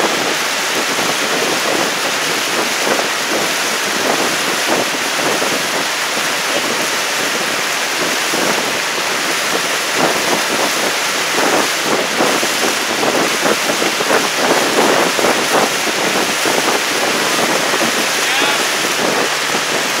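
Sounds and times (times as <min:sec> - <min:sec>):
splashing water: 0:00.0 - 0:20.0
wind buffeting microphone: 0:00.0 - 0:20.0.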